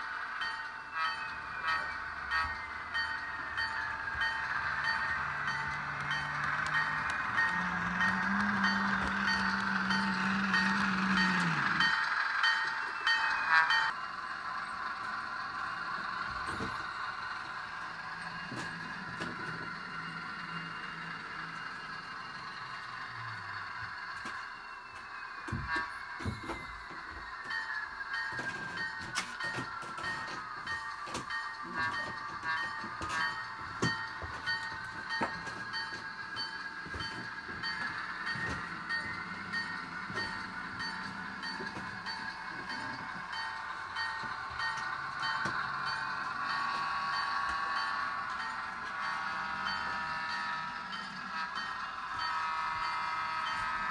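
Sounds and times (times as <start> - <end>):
diesel engine sound: 0.0 - 53.9
locomotive bell ringing: 0.0 - 53.9
model train running: 0.0 - 53.9
wheel clicks on rail joints: 0.4 - 53.9.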